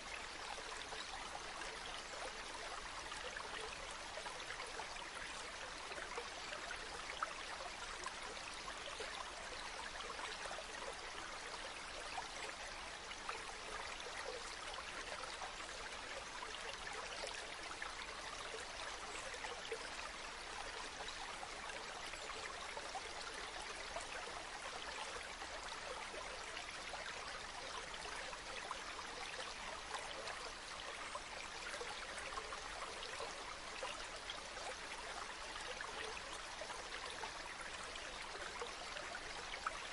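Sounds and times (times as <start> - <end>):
water flowing steadily: 0.0 - 39.9.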